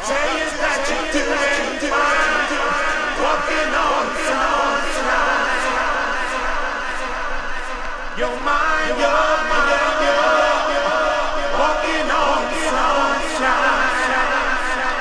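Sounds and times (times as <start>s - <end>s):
group of voices singing: 0.0s - 15.0s
male lead singing: 0.0s - 15.0s.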